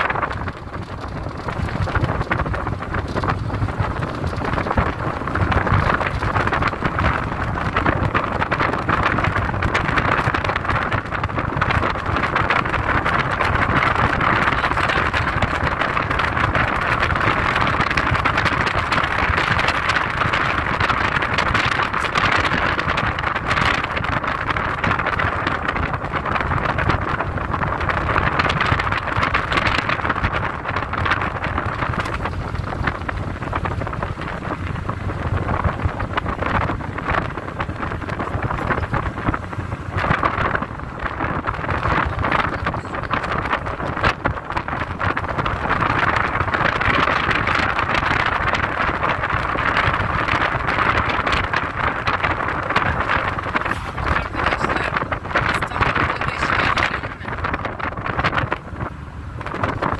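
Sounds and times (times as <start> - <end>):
low engine rumble: 0.0 - 59.9
tyre and road noise: 0.0 - 59.9.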